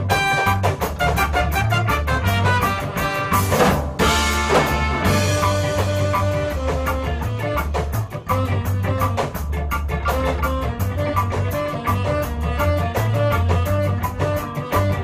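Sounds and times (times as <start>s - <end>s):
ska band music: 0.0s - 15.0s.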